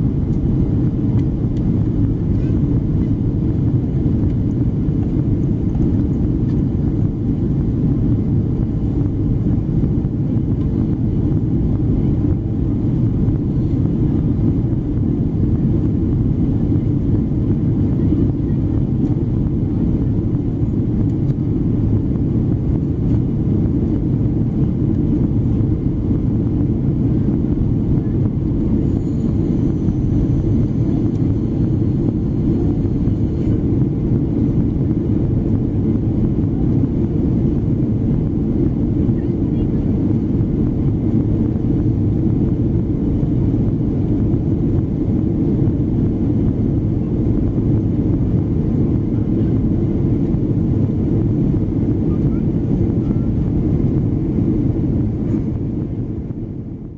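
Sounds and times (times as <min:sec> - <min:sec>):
airplane cabin engine drone: 0:00.0 - 0:56.9.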